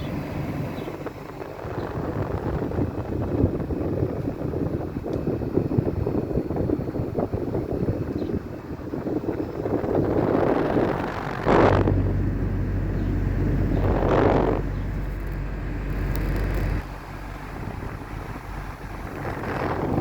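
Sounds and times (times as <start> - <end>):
air conditioner unit humming: 0.0 - 20.0
wind gusts on microphone: 0.0 - 20.0.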